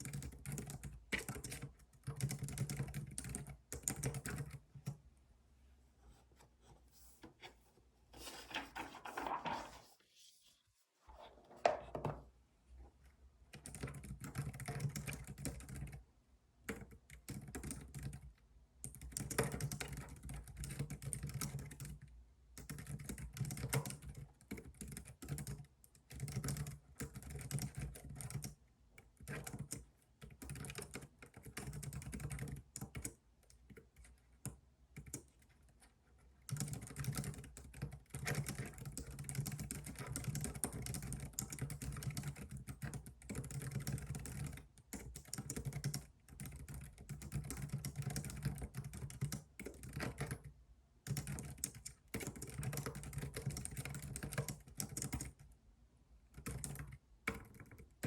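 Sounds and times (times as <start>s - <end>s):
typing on computer keyboard: 0.0s - 5.0s, 13.5s - 16.0s, 16.6s - 55.5s, 56.3s - 58.0s.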